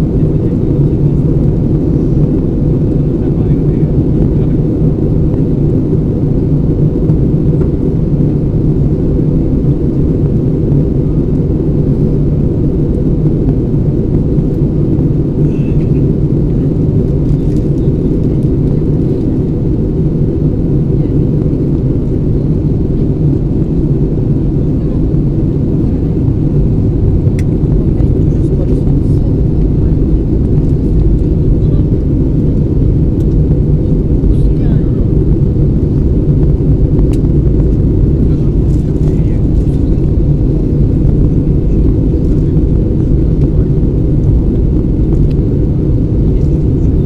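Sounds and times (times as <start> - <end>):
airliner cabin engine rumble: 0.0 - 47.0.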